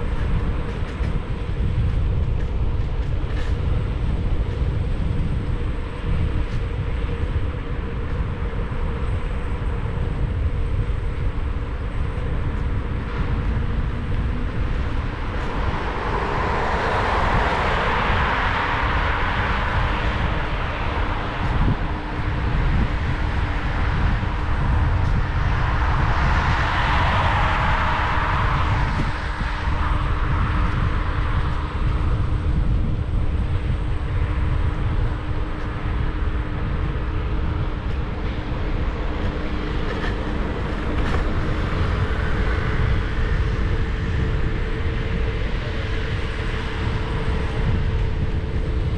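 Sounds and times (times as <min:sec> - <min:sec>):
steady low hum: 0:00.0 - 0:48.9
vehicles passing: 0:00.0 - 0:48.9
wind rumble on microphone: 0:00.0 - 0:48.9.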